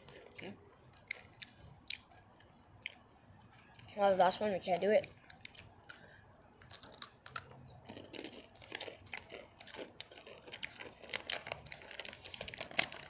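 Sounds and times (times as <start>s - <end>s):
tortilla chips crunched and chewed: 0.0s - 3.9s, 5.1s - 13.0s.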